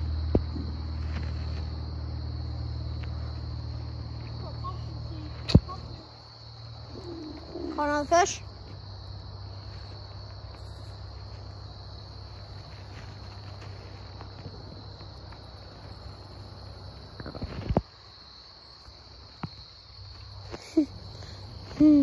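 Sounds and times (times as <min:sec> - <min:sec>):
high-pitched insect trill: 0:00.0 - 0:22.0
low outdoor rumble: 0:00.0 - 0:22.0.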